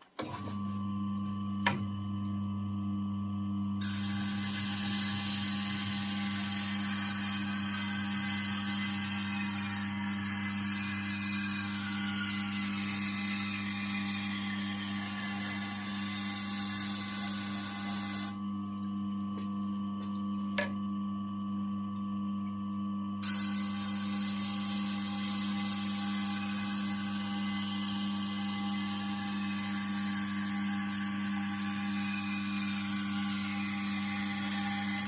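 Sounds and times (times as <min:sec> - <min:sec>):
sharpening machine motor humming: 0:00.1 - 0:21.4, 0:23.2 - 0:35.0.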